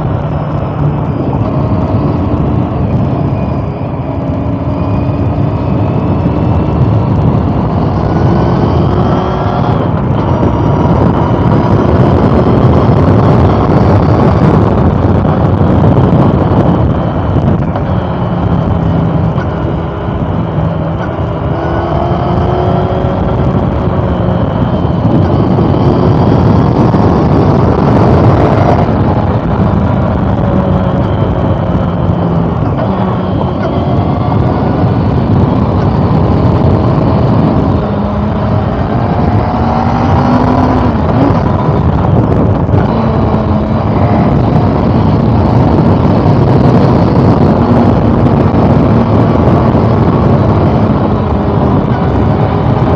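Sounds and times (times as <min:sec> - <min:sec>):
motorcycle engine revving: 0:00.0 - 0:52.9
wind noise: 0:00.0 - 0:52.9.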